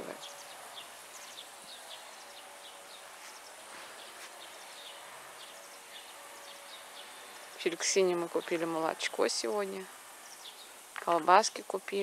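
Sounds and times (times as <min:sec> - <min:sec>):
small birds chirping: 0:00.0 - 0:12.0
steady hiss: 0:00.0 - 0:12.0.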